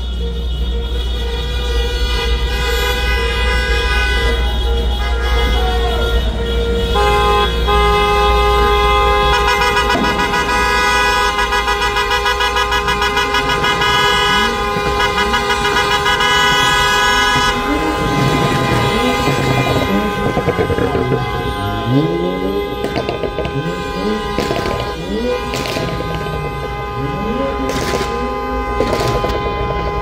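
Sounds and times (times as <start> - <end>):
car horns honking: 0.0 - 30.0
low rumble of traffic: 0.0 - 30.0.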